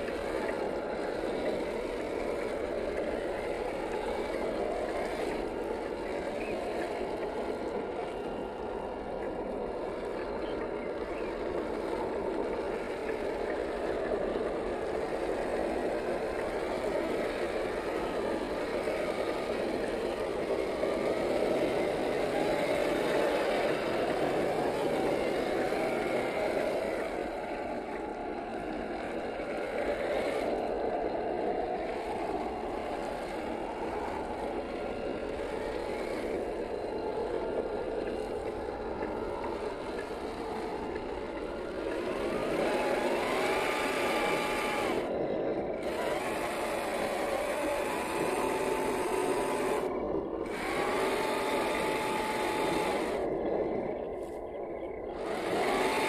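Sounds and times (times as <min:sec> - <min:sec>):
tyres churning mud: 0:00.0 - 0:54.4, 0:55.1 - 0:56.0
electric motor whining: 0:00.0 - 0:56.0.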